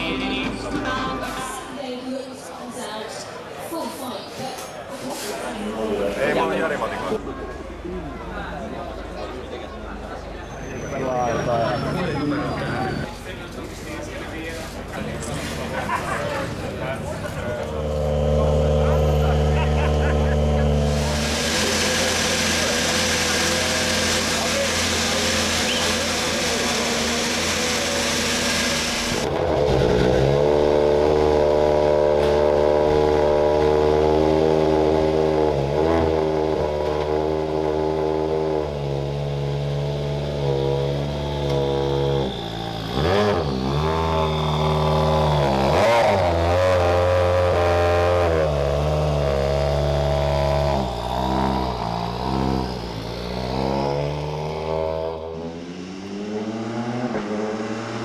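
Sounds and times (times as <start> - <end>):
rally car engine revving: 5.9 - 58.0.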